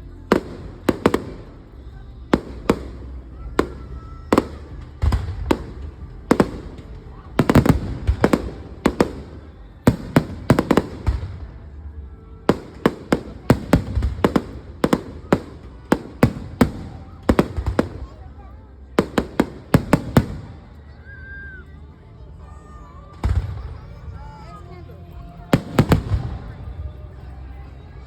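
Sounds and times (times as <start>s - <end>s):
fireworks exploding: 0.2s - 20.8s, 23.1s - 27.0s.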